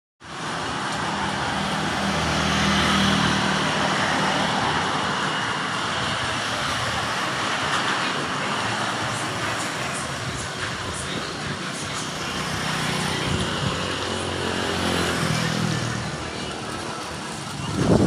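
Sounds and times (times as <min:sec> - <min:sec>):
heavy rain: 0:00.2 - 0:18.0
strong wind: 0:00.7 - 0:18.0.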